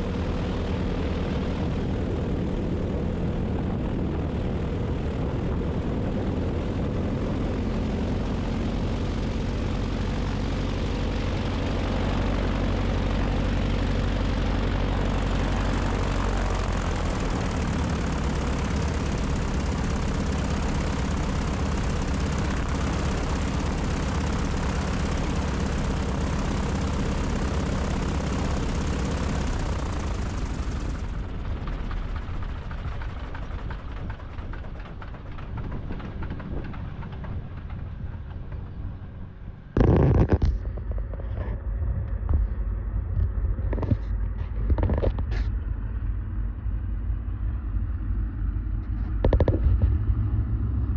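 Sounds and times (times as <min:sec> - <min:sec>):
propeller plane engines droning: 0:00.0 - 0:50.9.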